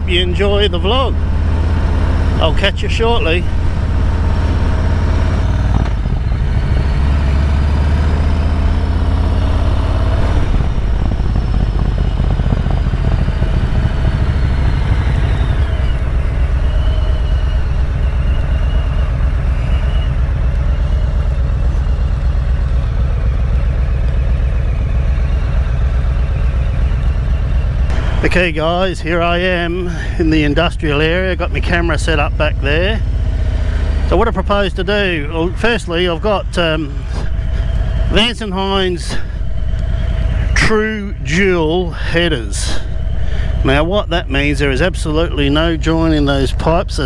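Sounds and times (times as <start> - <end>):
motorcycle exhaust note: 0.0 - 47.0.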